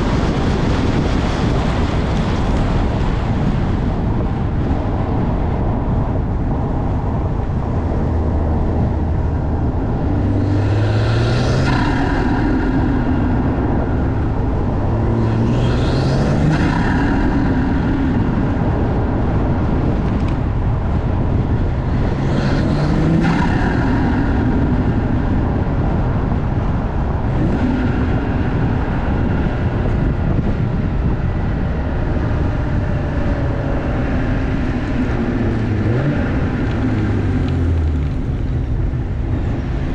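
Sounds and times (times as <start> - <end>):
intake noise rushing: 0.0 - 39.9
car engine accelerating: 7.2 - 39.9.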